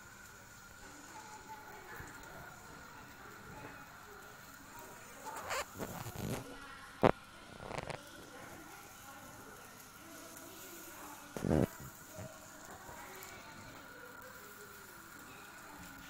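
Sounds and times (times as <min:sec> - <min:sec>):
faint stovetop hiss: 0:00.0 - 0:16.0.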